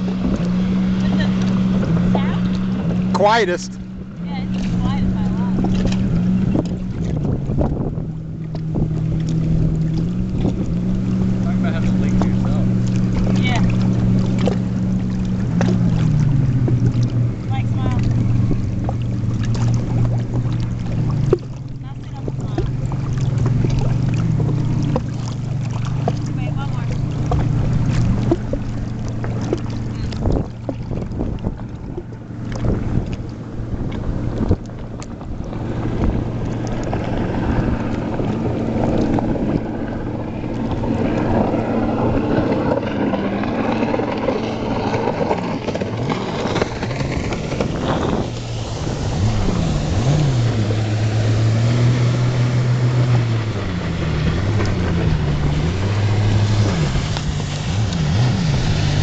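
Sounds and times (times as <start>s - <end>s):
watercraft engine idling and revving: 0.0s - 59.0s.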